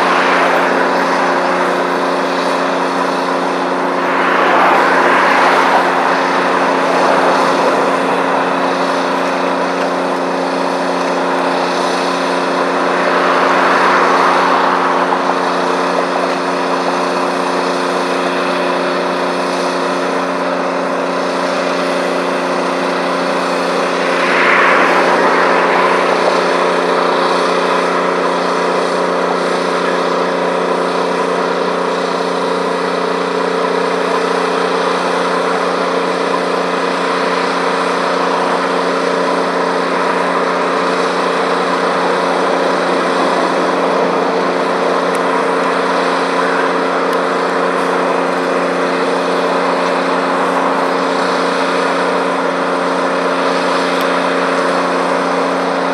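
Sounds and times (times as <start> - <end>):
diesel locomotive engines droning: 0.0 - 55.9.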